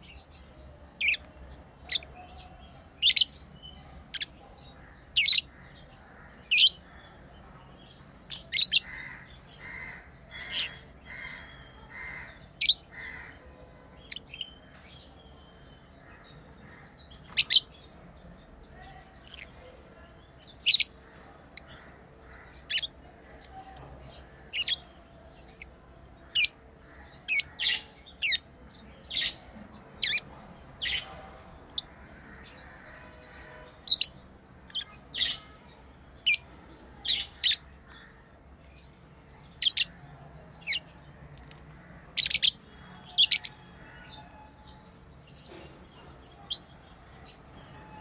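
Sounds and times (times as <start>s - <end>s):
lovebirds chirping: 0.0s - 48.0s
soft repeated bird chatter: 0.0s - 48.0s.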